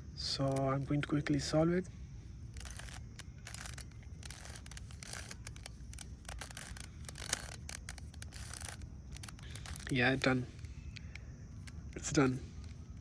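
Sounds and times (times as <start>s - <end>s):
puzzle cube clicking and scraping: 2.5s - 13.0s.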